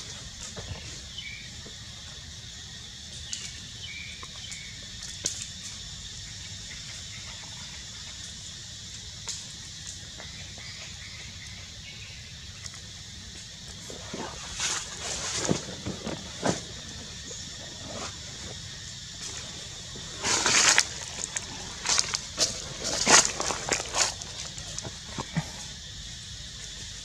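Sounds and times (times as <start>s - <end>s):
high-pitched hiss: 0.0s - 27.0s.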